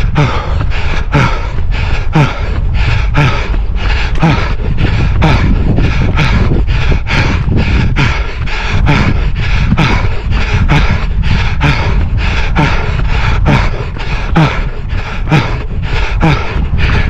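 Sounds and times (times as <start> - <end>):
hard breathing: 0.0 - 17.0
running footsteps on path: 0.0 - 17.0
steady low rumble: 0.0 - 17.0.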